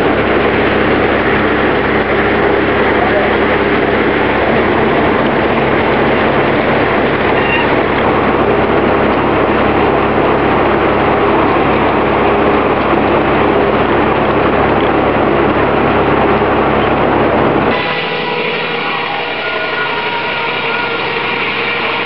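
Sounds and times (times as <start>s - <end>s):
sawmill machinery din: 0.0s - 22.0s.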